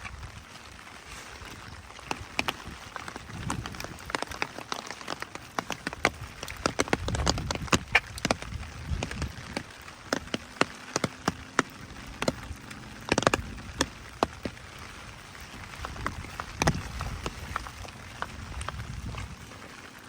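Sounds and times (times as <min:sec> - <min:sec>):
rain falling: 0:00.0 - 0:20.0
raindrops ticking on microphone: 0:00.0 - 0:20.0.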